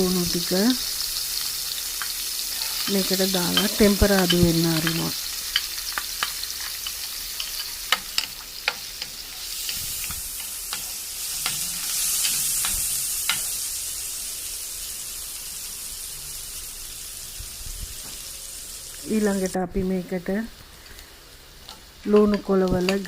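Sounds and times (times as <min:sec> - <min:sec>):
garlic sizzling in oil: 0:00.0 - 0:23.0.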